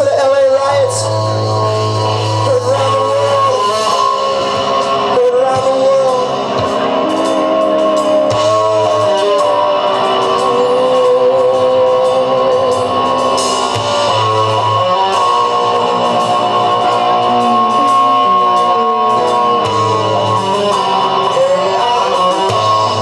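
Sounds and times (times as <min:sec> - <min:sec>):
drums: 0:00.0 - 0:23.0
electric guitars: 0:00.0 - 0:23.0.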